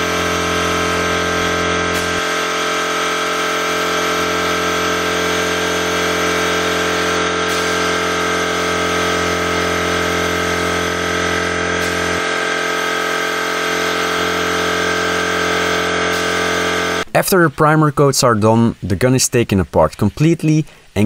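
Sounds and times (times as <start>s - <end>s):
spray gun air hiss: 0.0s - 17.0s
motor humming: 0.0s - 17.1s.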